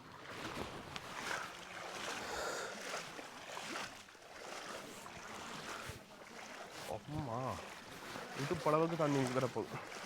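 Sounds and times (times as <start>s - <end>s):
floodwater sloshing and splashing: 0.0s - 10.0s.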